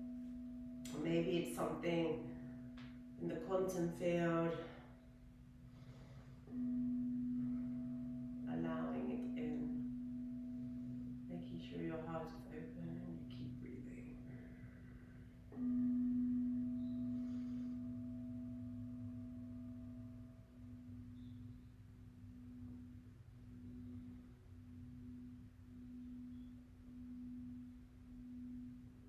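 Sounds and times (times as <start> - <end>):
singing bowl ringing: 0.0 - 29.0.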